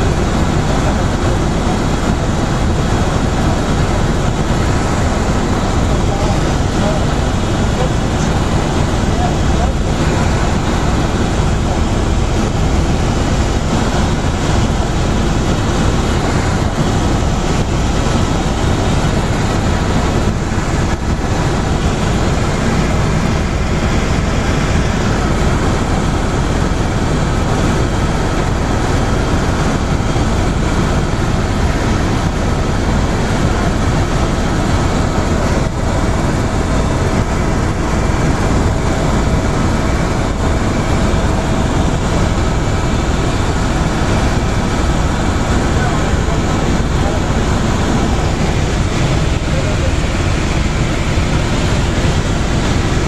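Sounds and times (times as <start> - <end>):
helicopter rotor and engine din: 0.0 - 53.0.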